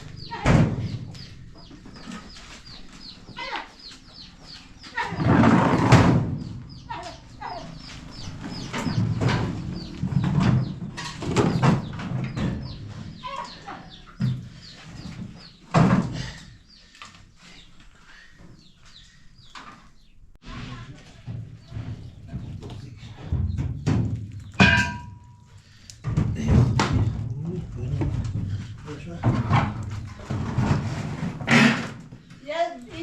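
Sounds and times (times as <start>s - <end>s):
birds chirping: 0.0s - 20.4s, 21.3s - 30.8s.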